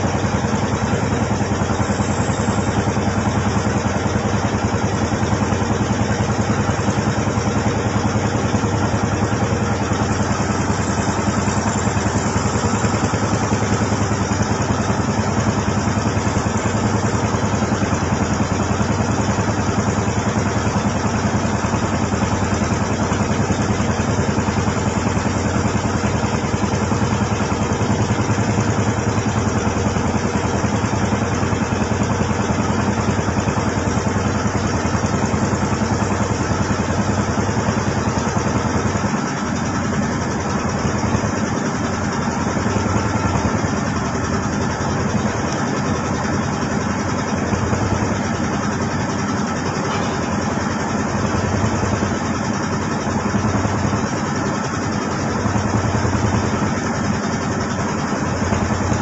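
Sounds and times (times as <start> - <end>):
boat engine pulsing: 0.0 - 59.0.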